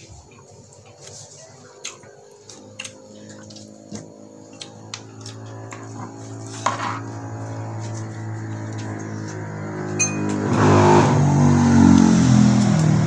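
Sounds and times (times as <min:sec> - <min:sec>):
low hum: 0:01.7 - 0:13.0.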